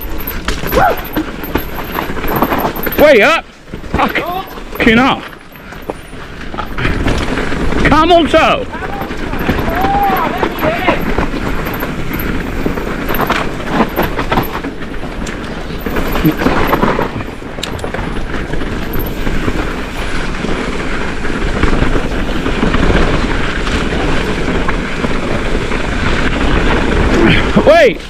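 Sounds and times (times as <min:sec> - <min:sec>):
bike chain and frame rattling: 0:00.0 - 0:28.0
bike tyres rumbling on dirt: 0:00.0 - 0:28.0.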